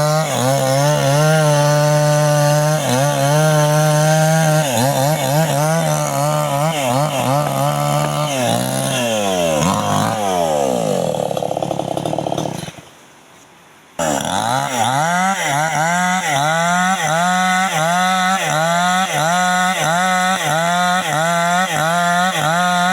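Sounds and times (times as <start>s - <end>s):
chainsaw cutting wood: 0.0s - 13.0s, 14.0s - 22.9s.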